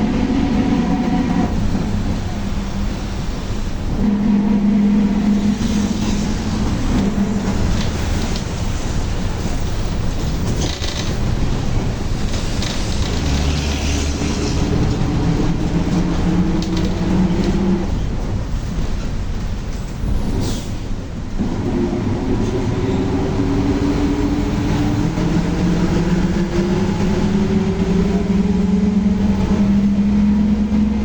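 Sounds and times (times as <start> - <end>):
bus driving on road: 0.0 - 31.0.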